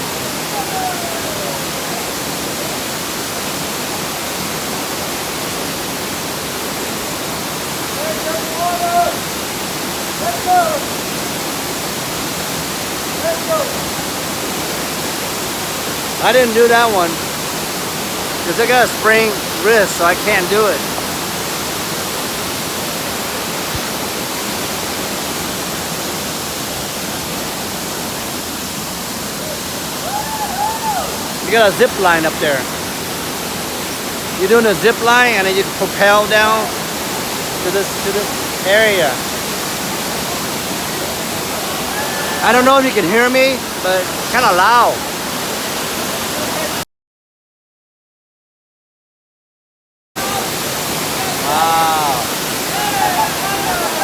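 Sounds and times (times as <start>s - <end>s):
waterfall rushing: 0.0s - 46.8s, 50.2s - 54.0s.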